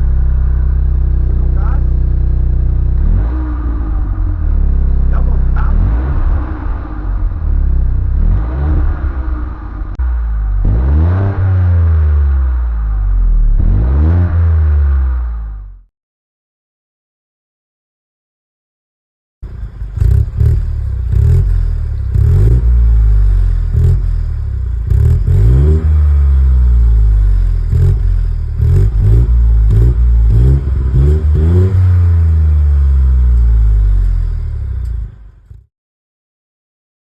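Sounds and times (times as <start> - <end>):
car engine revving: 0.0 - 15.8, 19.4 - 35.6.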